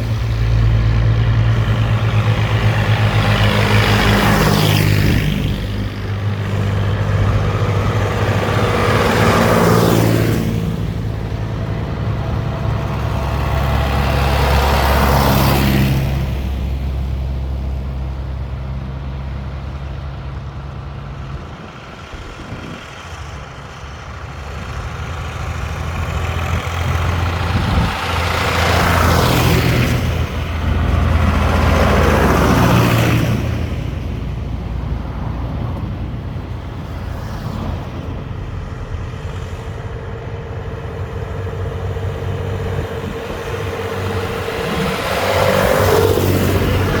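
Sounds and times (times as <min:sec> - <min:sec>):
tractors driving past: 0:00.0 - 0:47.0.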